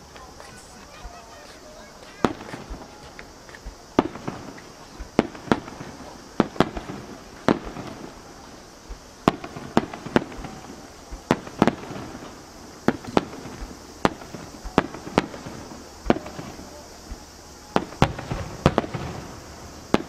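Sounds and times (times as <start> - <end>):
firework shells bursting: 0.0 - 20.0.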